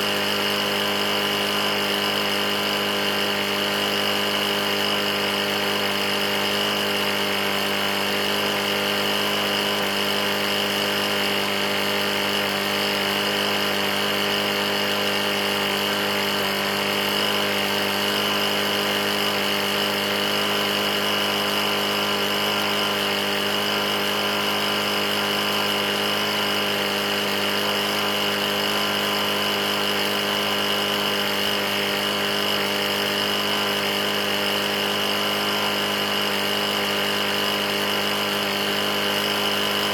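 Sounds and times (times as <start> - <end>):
knocking lawn mower engine: 0.0 - 39.9.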